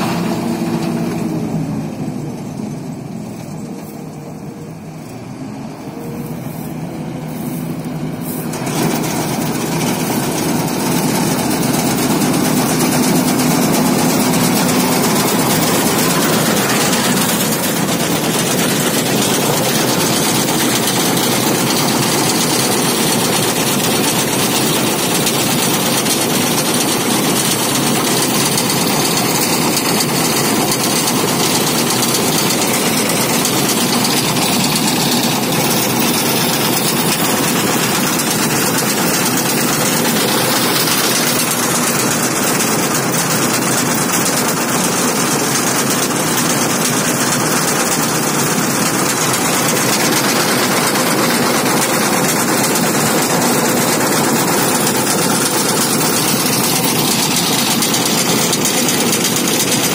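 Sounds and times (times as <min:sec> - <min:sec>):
combine harvester mechanical drone: 0:00.0 - 0:59.9.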